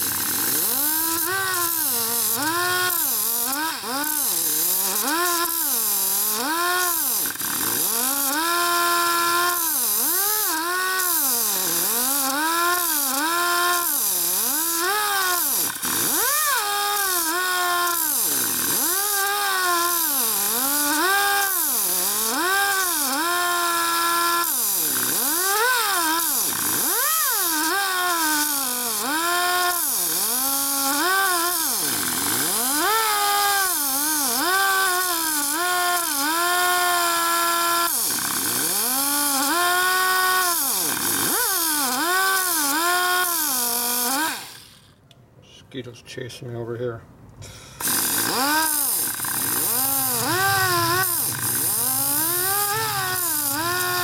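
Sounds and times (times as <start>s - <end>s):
air die grinder whining: 0.0s - 44.9s, 47.5s - 54.0s.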